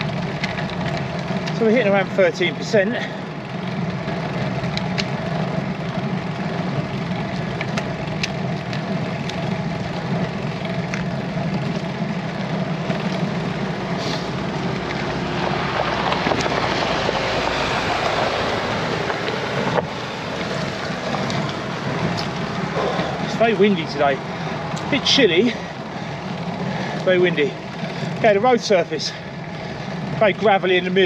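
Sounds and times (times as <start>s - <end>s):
car engine running: 0.0s - 31.0s
car overtaking: 0.0s - 31.0s.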